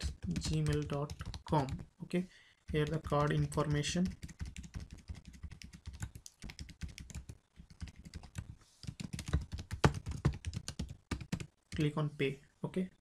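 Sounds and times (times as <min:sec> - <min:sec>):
fast typing on keyboard: 0:00.0 - 0:01.9, 0:02.7 - 0:11.9.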